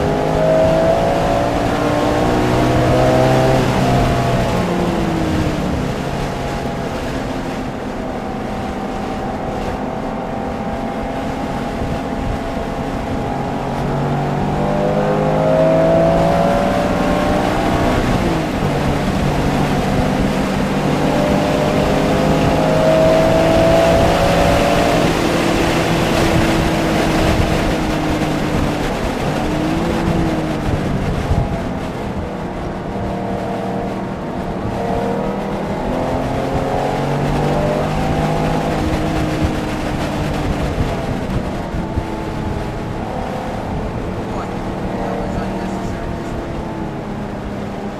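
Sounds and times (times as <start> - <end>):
racing car engine: 0.0 - 47.9
tyre and road noise: 0.0 - 47.9.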